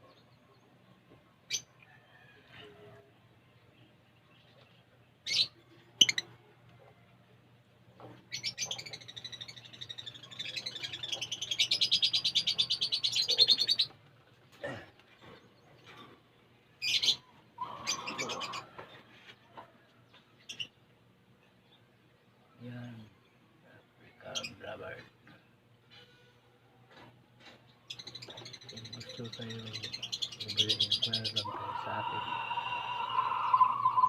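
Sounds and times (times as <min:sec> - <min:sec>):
lovebirds chirping and chattering: 0:00.0 - 0:02.7, 0:03.4 - 0:25.7, 0:27.4 - 0:34.0.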